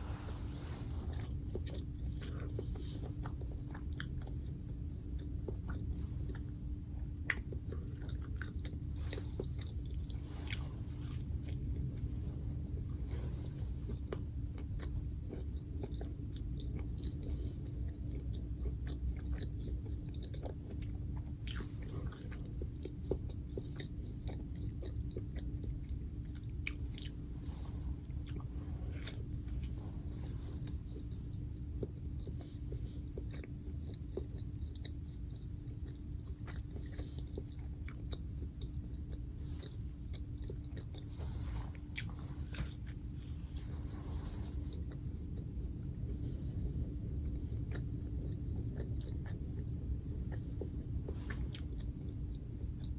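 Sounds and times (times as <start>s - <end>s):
low hum: 0.0s - 52.9s
person chewing food: 0.0s - 52.9s.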